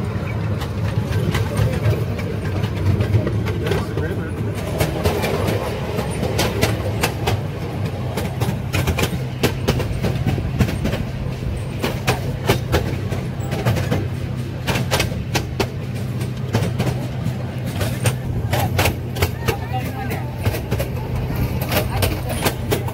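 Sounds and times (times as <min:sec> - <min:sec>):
train wheels clacking on track: 0:00.0 - 0:22.9.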